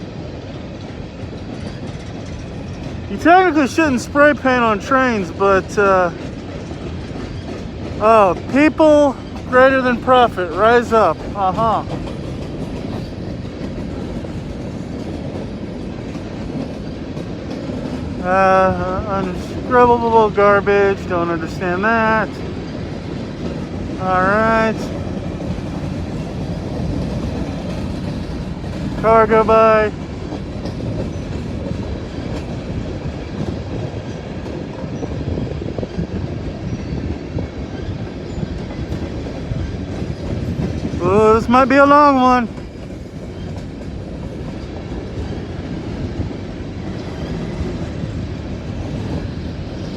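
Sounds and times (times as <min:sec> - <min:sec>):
freight train wheels on rails: 0:00.0 - 0:49.9.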